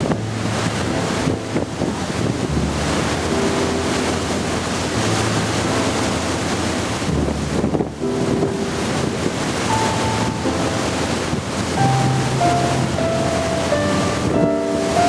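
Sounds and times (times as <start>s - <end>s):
water rushing: 0.0s - 15.0s
wind buffeting microphone: 0.0s - 15.0s.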